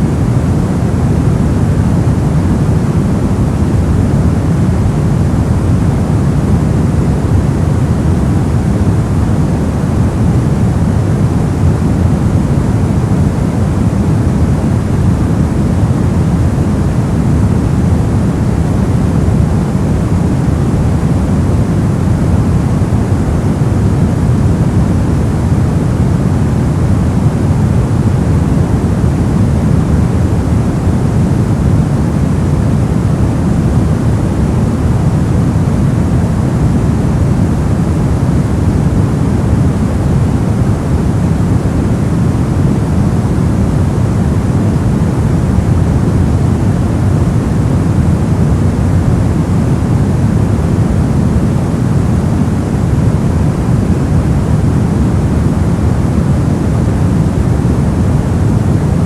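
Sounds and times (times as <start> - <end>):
low rumbling white noise: 0.0 - 59.0.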